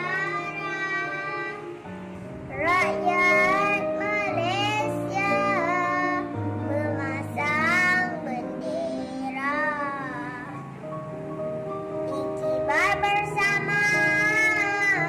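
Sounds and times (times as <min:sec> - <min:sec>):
girl singing: 0:00.0 - 0:10.7, 0:12.0 - 0:15.0
instrumental backing track: 0:00.0 - 0:15.0.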